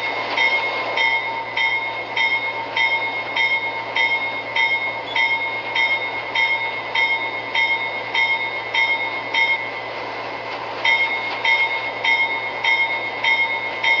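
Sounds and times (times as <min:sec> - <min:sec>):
locomotive bell ringing: 0:00.0 - 0:09.8, 0:10.8 - 0:14.0
train noise: 0:00.0 - 0:14.0.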